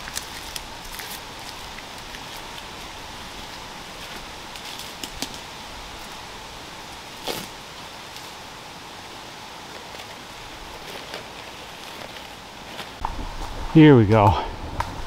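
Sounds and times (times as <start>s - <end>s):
dry bark and leaves crackling: 0.0s - 14.3s
steady hiss: 0.0s - 15.0s.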